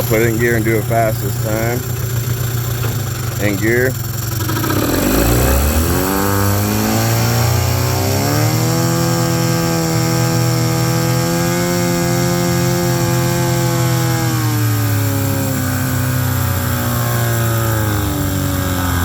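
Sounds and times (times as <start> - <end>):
outboard motor revving: 0.0 - 19.0.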